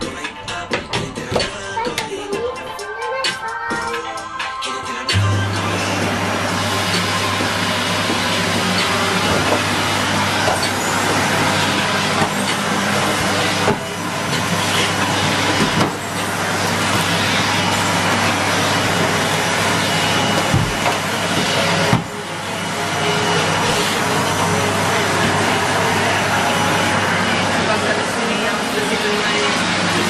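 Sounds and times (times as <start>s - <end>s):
vacuum cleaner running: 5.1s - 30.0s.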